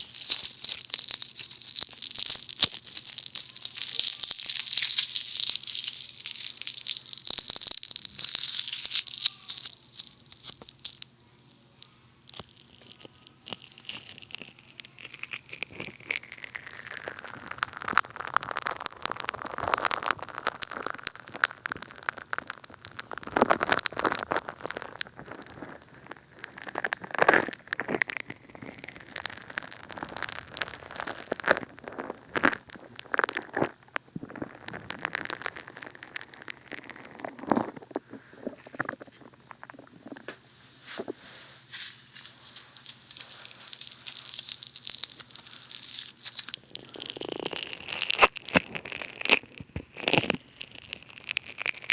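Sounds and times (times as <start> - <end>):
bath foam crackling and popping: 0.0 - 51.9.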